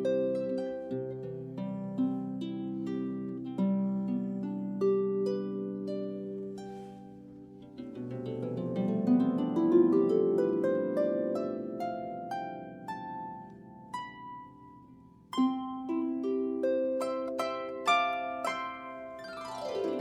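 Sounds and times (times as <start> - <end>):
harp chord: 0.0 - 20.0
harp playing plucked notes: 0.0 - 20.0.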